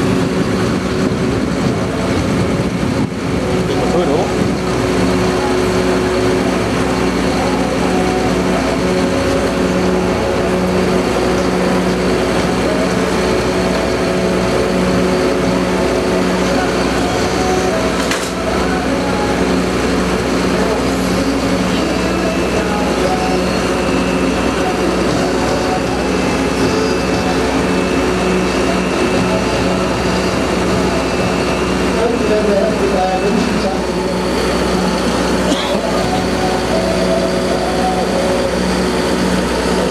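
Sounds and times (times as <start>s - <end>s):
constant hum: 0.0s - 39.9s
diesel engine running: 0.0s - 39.9s.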